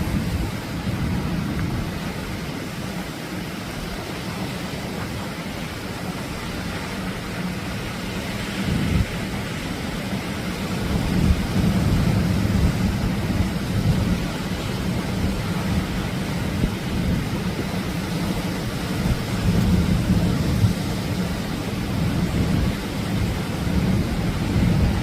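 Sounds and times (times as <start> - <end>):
waves breaking on a beach: 0.0 - 25.0.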